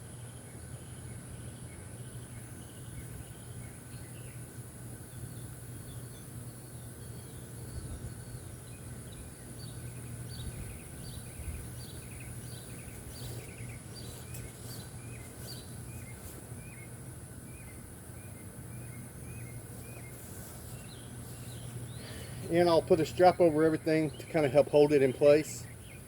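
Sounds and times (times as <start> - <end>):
high insect drone: 0.0 - 26.0
bird chirping: 5.1 - 26.0.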